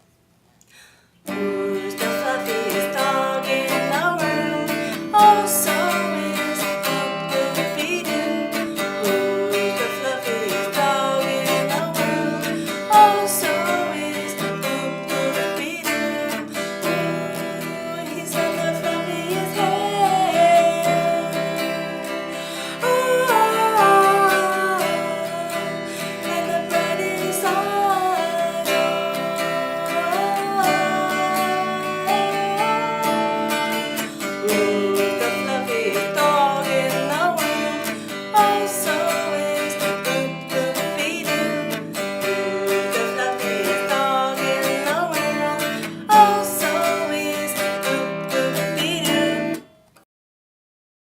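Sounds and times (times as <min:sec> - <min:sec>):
person singing: 0:01.3 - 0:49.6
acoustic guitar strumming: 0:01.3 - 0:50.0.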